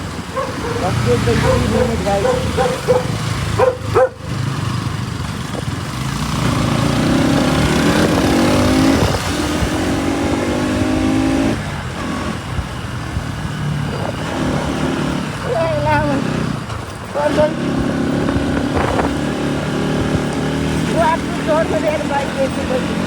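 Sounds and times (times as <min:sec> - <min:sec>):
motorcycle engine accelerating: 0:00.0 - 0:23.0
road and wind noise: 0:00.0 - 0:23.0.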